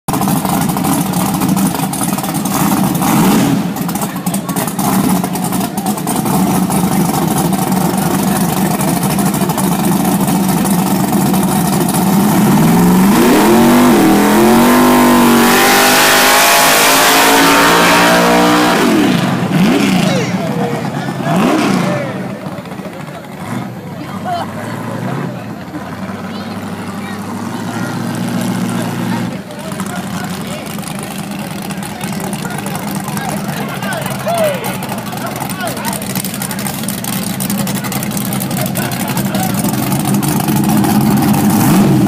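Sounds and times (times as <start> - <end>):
car engine idling and revving: 0.0 - 42.0.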